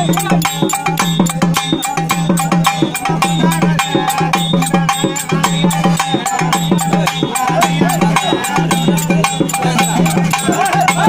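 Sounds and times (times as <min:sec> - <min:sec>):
hand drums beaten fast: 0:00.0 - 0:11.0.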